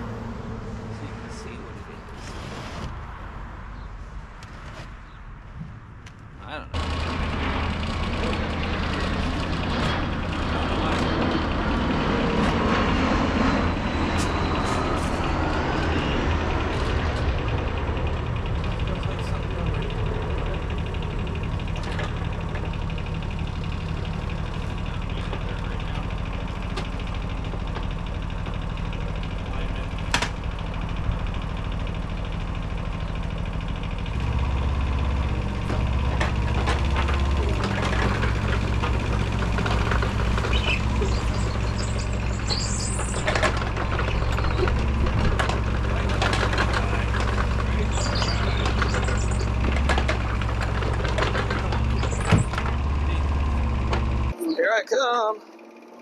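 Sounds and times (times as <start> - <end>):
excavator diesel engine running: 0.0 - 3.6, 6.4 - 56.0.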